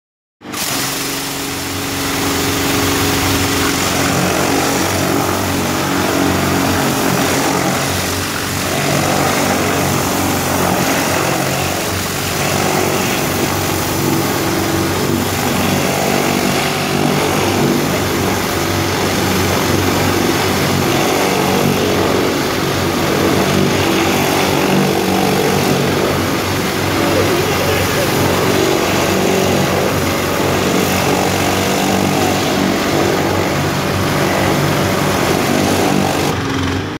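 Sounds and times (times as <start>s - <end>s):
high-pressure water spraying: 0.4s - 36.9s
pressure washer motor drone: 0.4s - 36.9s.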